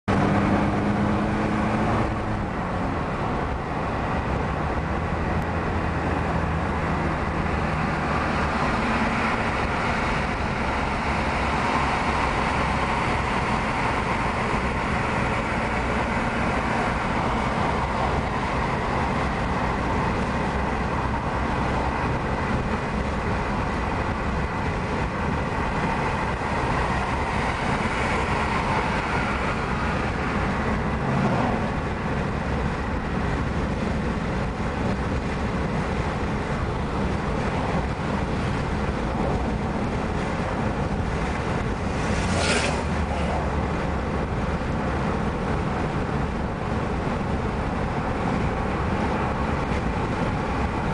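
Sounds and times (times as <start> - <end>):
car engine hum: 0.0 - 50.9
road and tyre noise: 0.0 - 50.9.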